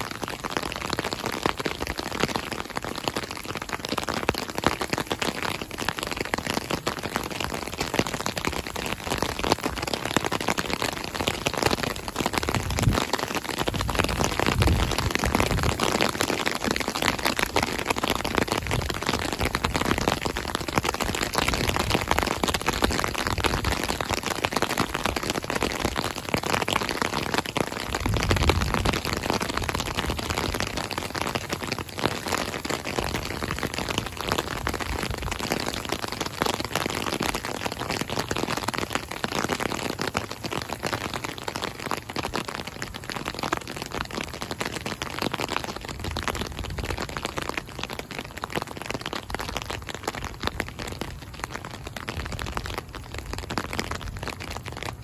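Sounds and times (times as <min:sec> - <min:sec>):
rain on pavement and gravel: 0:00.0 - 0:55.0.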